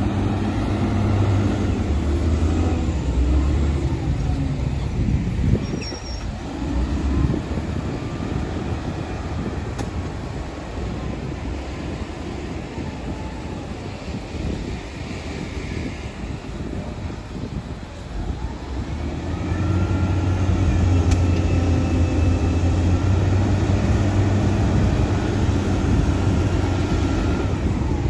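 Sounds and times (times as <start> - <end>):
heavy diesel machinery running: 0.0 - 28.0.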